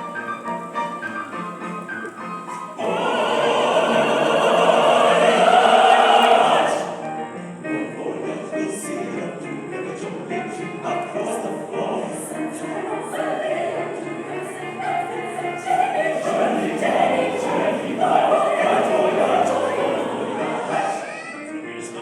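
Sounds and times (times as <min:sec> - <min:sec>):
choir singing: 0:00.0 - 0:22.0.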